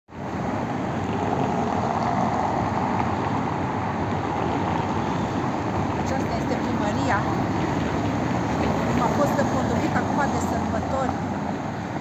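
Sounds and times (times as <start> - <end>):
city street traffic: 0.1 - 12.0.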